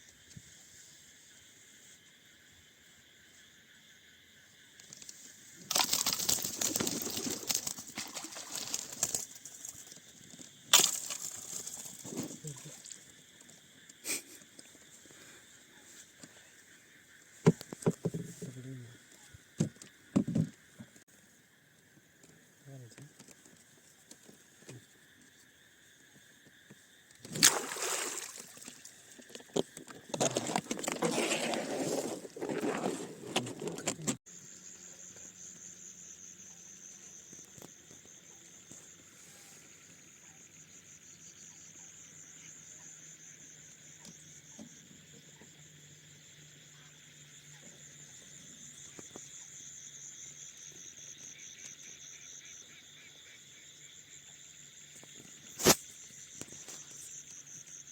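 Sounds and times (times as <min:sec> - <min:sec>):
night insects trilling: 0:00.0 - 0:57.9.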